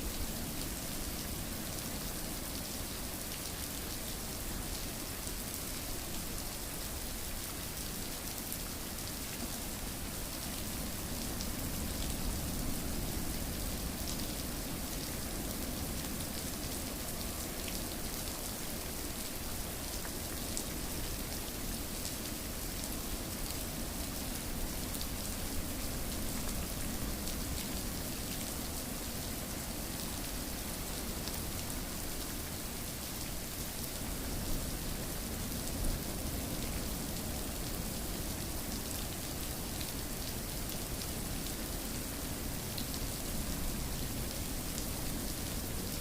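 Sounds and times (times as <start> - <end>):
steady rainfall: 0.0 - 46.0.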